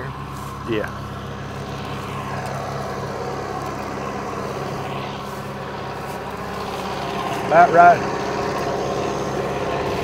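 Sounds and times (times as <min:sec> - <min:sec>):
rotary cutter cutting brush: 0:00.0 - 0:10.0
tractor diesel engine under load: 0:00.0 - 0:10.0.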